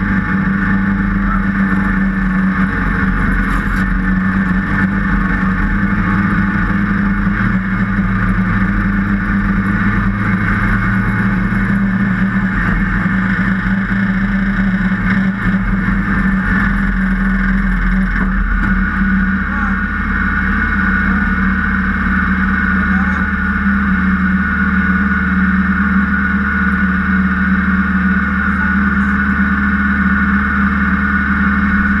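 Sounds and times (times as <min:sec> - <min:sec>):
kart engine idling: 0:00.0 - 0:32.0.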